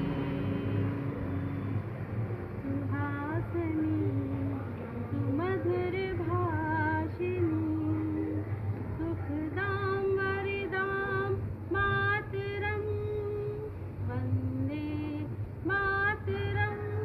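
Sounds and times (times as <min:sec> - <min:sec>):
low steady hum: 0:00.0 - 0:17.0
woman singing: 0:02.6 - 0:08.4, 0:09.0 - 0:17.0.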